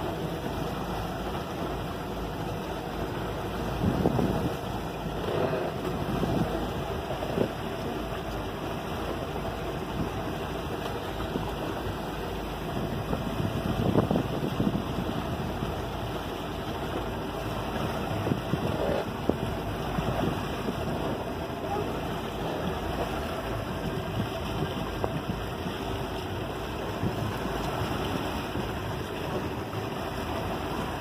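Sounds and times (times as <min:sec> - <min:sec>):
motorboat engine: 0:00.0 - 0:31.0
wake rushing: 0:00.0 - 0:31.0
wind buffeting microphone: 0:03.0 - 0:08.3, 0:11.2 - 0:31.0.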